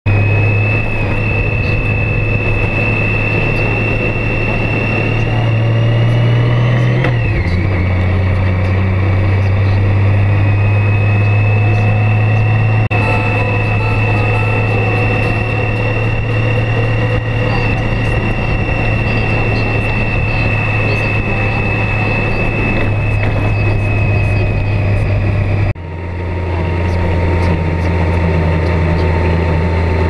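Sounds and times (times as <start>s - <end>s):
high whine: 0.1s - 30.0s
motorcycle engine running: 0.1s - 30.0s
wind and road noise: 0.1s - 30.0s.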